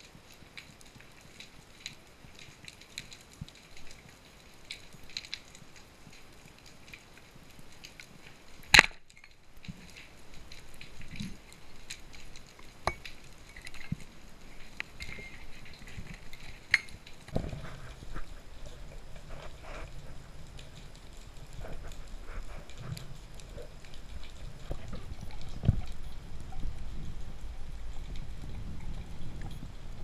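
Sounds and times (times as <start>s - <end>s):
reef crackling clicks underwater: 0.0s - 30.0s.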